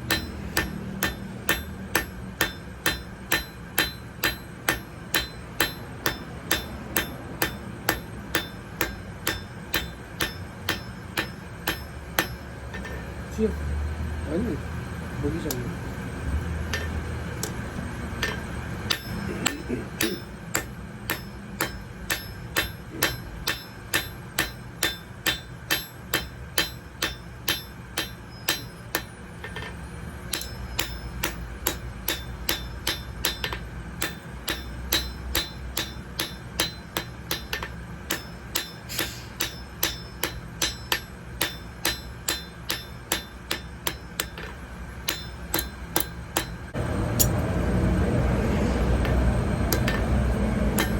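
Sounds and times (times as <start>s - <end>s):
hammer striking metal on anvil: 0.0s - 13.2s, 16.6s - 47.4s, 48.9s - 50.9s
steady low hum: 0.0s - 50.9s.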